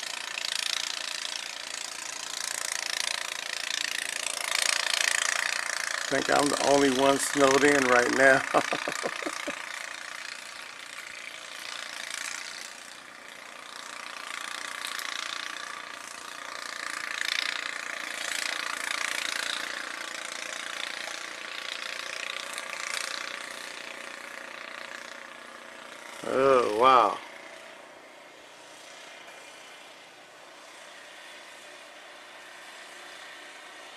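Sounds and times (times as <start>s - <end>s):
snow blower engine running: 0.0s - 33.9s.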